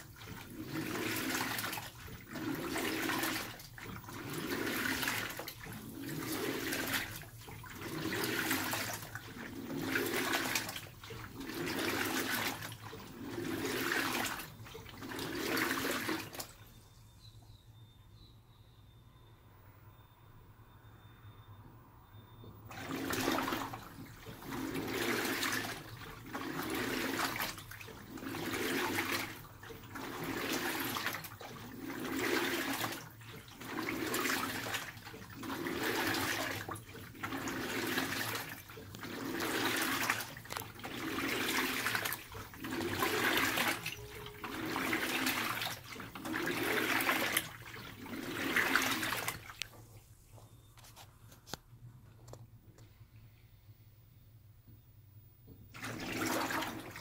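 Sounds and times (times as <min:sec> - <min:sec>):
water sloshing through clothes: 0:00.0 - 0:16.8, 0:22.7 - 0:51.6, 0:55.7 - 0:57.0
washing machine motor whir: 0:00.0 - 0:16.9, 0:22.1 - 0:50.0, 0:55.4 - 0:57.0.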